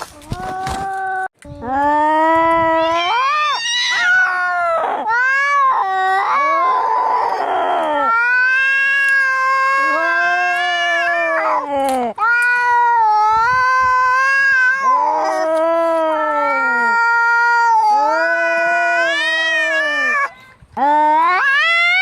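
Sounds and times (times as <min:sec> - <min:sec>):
cats yowling in a fight: 0:02.6 - 0:20.3.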